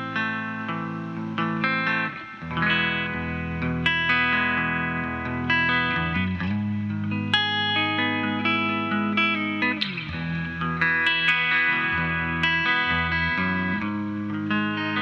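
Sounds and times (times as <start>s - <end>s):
electric guitar strummed chords: 0.0s - 15.0s.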